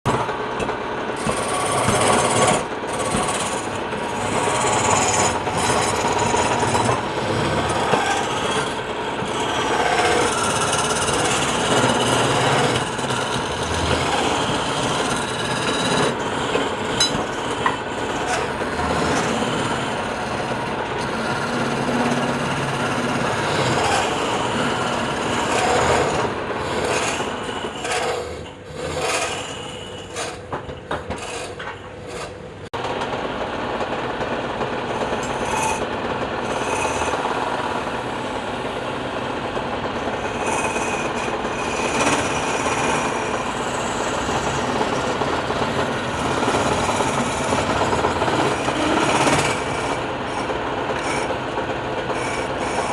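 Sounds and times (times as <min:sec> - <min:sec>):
lathe tool rasping on spinning wood: 0:01.2 - 0:32.6, 0:34.8 - 0:39.1, 0:39.8 - 0:52.9.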